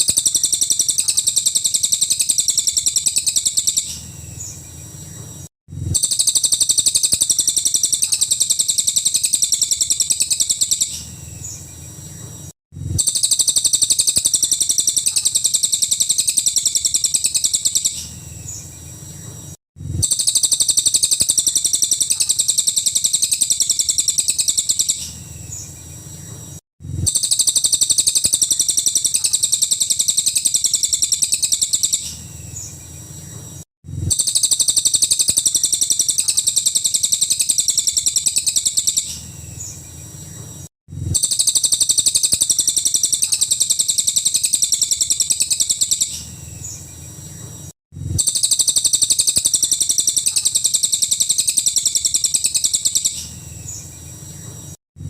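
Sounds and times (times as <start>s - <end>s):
songbird singing high-pitched runs: 0.0s - 54.8s.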